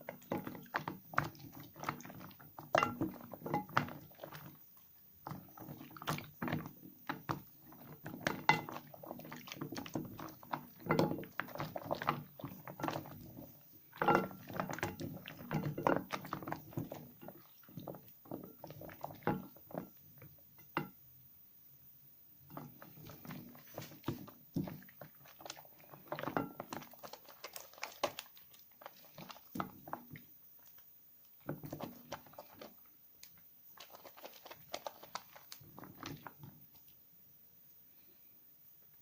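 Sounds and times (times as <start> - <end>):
wet soap squelching: 0.0 - 20.8, 22.5 - 37.1.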